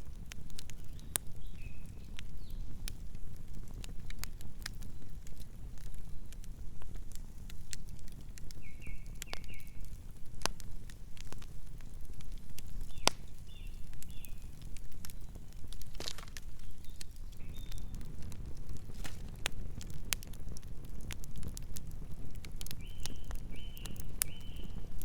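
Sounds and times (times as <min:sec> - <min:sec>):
campfire crackling and popping: 0:00.0 - 0:25.0
low rumble of flames: 0:00.0 - 0:25.0.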